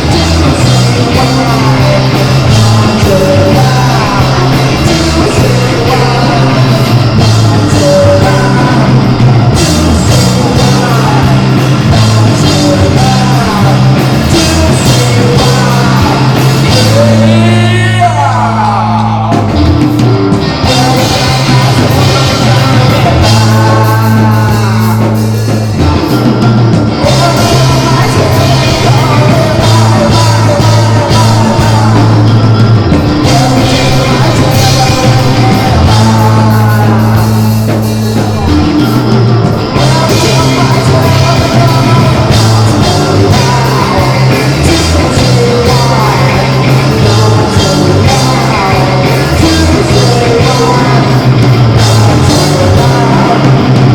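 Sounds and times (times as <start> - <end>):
drums: 0.0 - 53.9
held bass notes: 0.0 - 53.9
live band playing rock music: 0.0 - 53.9.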